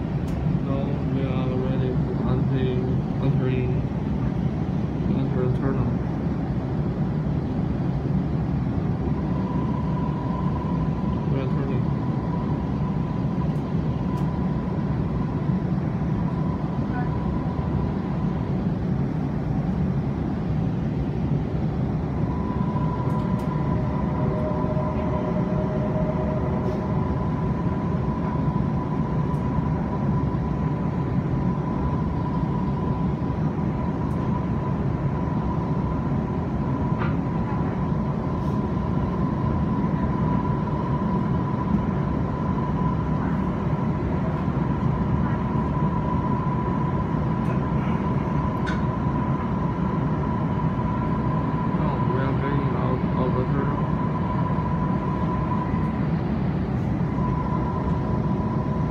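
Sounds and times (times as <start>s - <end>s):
train high whine: 0.0s - 58.9s
train low rumble: 0.0s - 58.9s.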